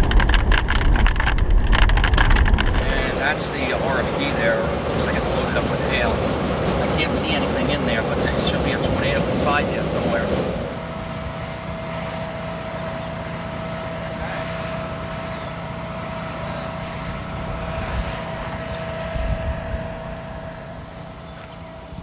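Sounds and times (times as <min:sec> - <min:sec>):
faint whine: 0:00.0 - 0:22.0
vehicle road and engine noise: 0:00.0 - 0:22.0
wind buffeting: 0:00.0 - 0:22.0.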